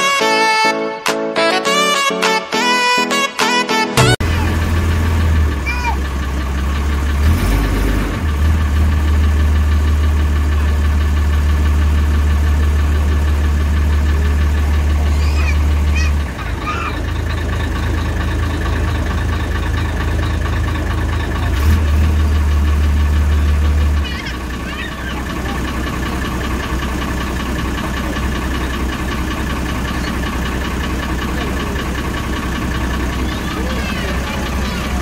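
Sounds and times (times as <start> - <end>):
boat engine droning: 4.2 - 35.0.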